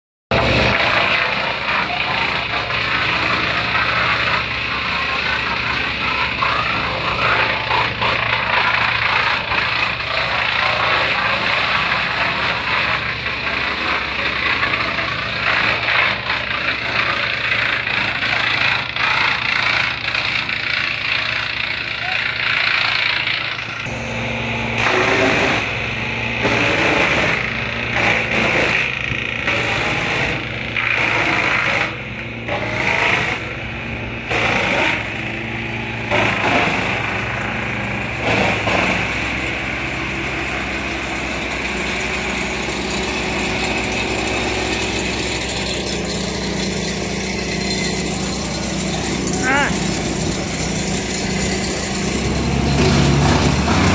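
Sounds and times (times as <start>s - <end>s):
diesel engine running: 0.3s - 53.9s
wood chipper mechanical roar: 0.3s - 53.9s.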